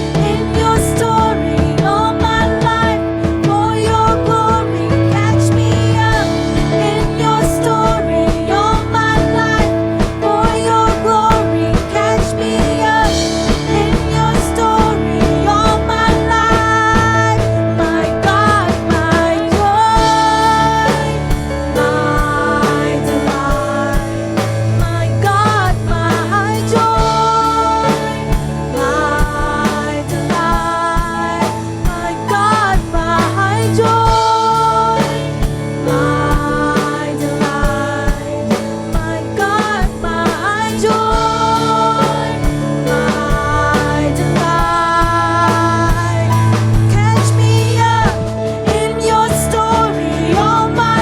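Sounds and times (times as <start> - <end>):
band playing instrumental: 0.0 - 51.0
bending melodic lead line: 0.0 - 51.0
drum kit beat: 0.0 - 51.0.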